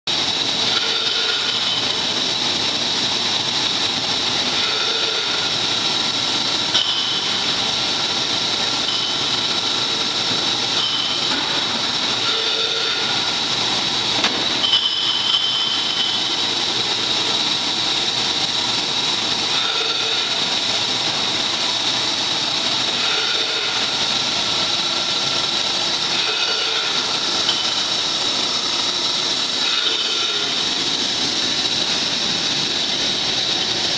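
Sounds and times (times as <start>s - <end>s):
bottling machine noise and hiss: 0.1s - 33.9s
high machine whine: 0.1s - 33.9s.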